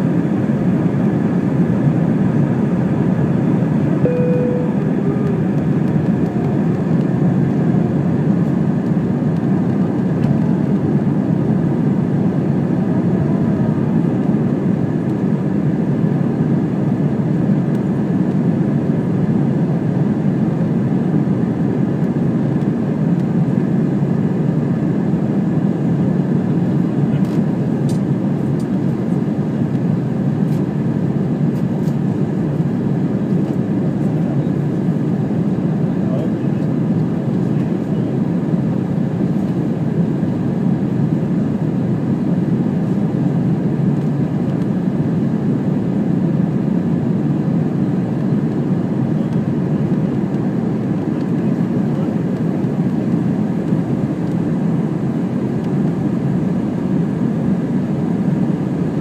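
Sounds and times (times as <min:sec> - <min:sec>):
jet cabin noise: 0:00.0 - 0:59.0.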